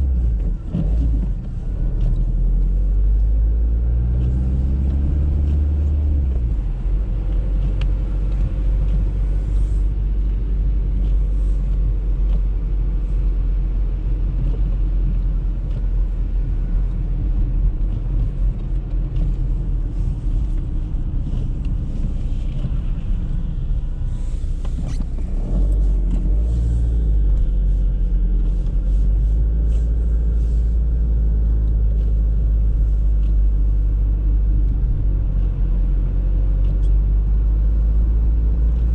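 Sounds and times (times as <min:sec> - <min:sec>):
car engine and tyre rumble: 0:00.0 - 0:38.9
light ticks: 0:04.2 - 0:38.9.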